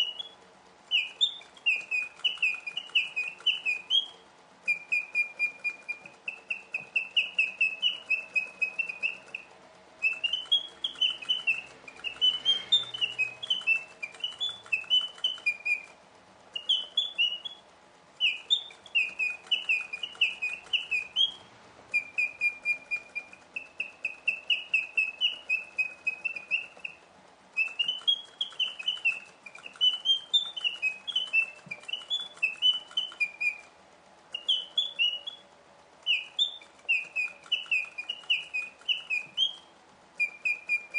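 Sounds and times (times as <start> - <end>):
mechanical birds chirping: 0.0 - 40.9.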